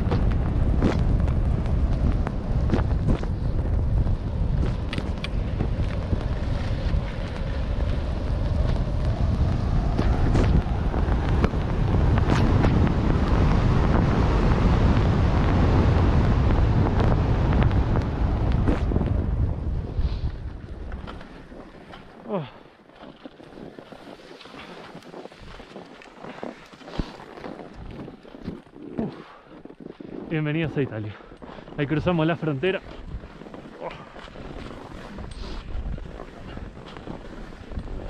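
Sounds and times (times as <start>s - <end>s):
skis scraping on snow: 0.0s - 38.0s
wind buffeting microphone: 0.0s - 38.0s.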